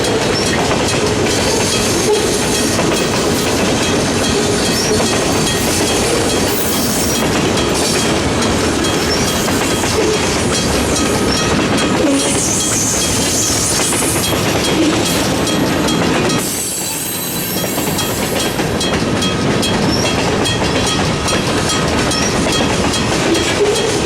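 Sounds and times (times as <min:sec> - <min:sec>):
freight cars rumbling on rails: 0:00.0 - 0:24.0.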